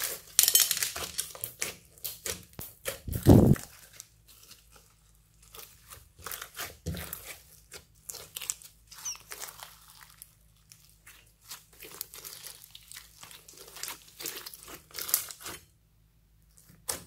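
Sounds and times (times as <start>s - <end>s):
slime crunchy crackles: 0.0s - 15.6s.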